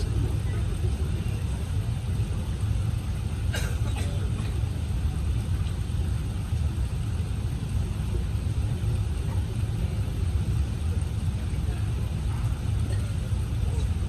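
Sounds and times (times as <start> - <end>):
aircraft cabin low rumble: 0.0 - 14.0.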